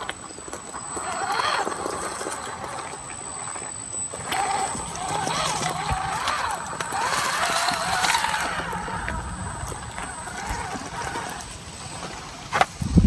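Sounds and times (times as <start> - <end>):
electric motor and gears whining: 0.0 - 13.0.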